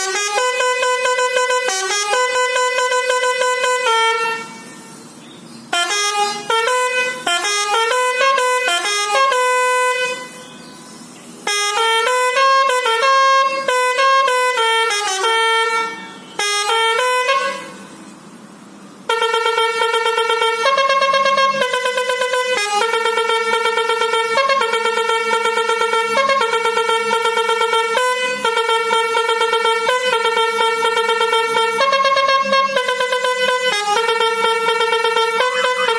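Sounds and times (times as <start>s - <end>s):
multi-tone musical truck horn: 0.0s - 35.9s.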